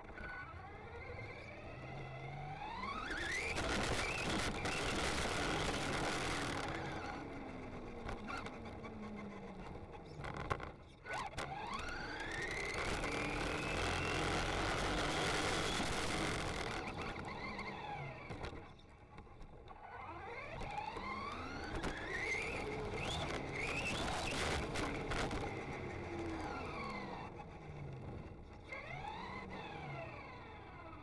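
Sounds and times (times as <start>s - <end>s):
wind and tyre noise: 0.0s - 31.0s.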